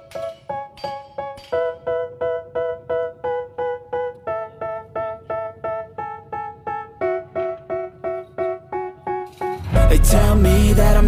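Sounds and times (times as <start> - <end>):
keyboard playing repeated chords: 0.0 - 11.0.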